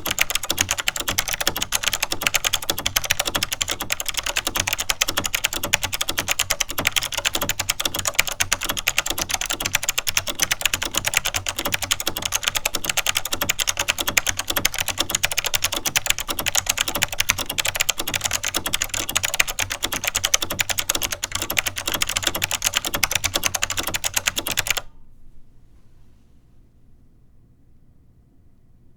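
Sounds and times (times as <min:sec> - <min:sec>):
fast typing on clicky keyboard: 0:00.0 - 0:24.9.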